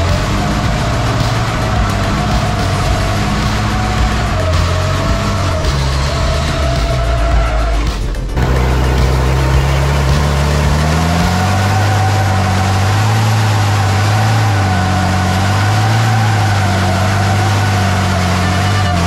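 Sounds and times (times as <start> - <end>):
diesel truck engine running hard: 0.0 - 19.0.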